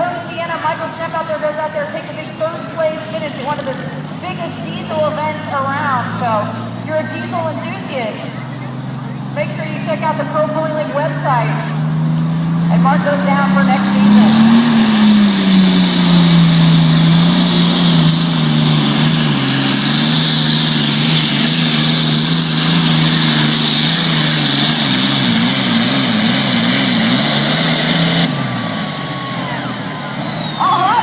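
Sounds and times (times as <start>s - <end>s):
tractor diesel engine at full power: 0.0s - 31.0s
turbocharger whistle: 4.3s - 31.0s.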